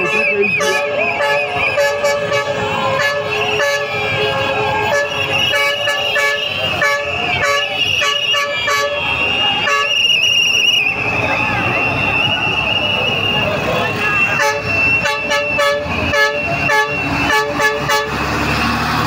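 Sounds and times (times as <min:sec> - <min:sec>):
vehicle horns honking: 0:00.0 - 0:10.8, 0:11.9 - 0:18.3
crowd voices: 0:00.0 - 0:19.0.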